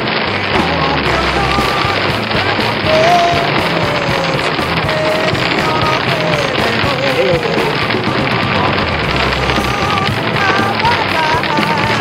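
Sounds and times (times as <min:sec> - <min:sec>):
driving noise: 0:00.0 - 0:12.0
music with held melody notes: 0:00.0 - 0:12.0
rain hiss: 0:00.0 - 0:12.0.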